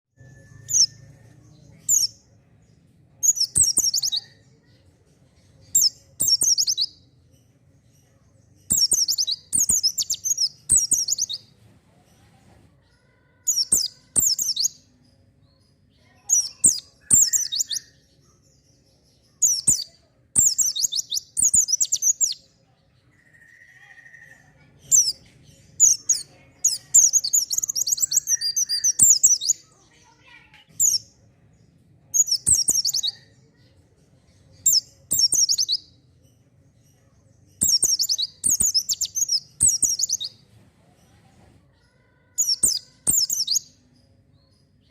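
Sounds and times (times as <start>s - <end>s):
bird twittering song: 0.2s - 12.4s, 13.0s - 44.9s.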